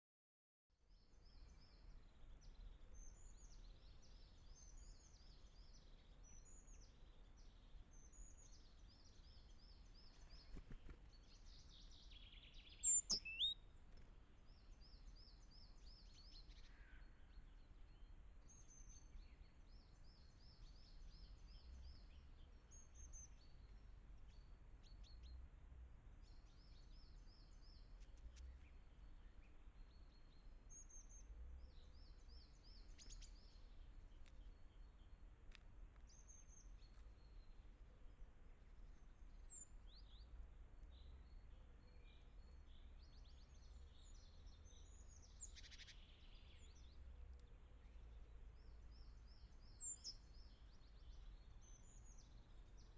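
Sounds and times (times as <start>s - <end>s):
songbirds chirping: 0.8s - 52.9s
faint low rumble: 0.9s - 52.9s.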